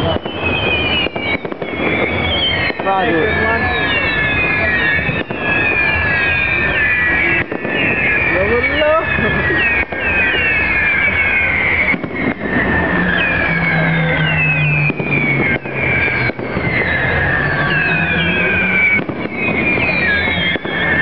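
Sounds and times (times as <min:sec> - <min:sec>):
fireworks display noise: 0:00.0 - 0:21.0
whistling fireworks: 0:00.0 - 0:21.0.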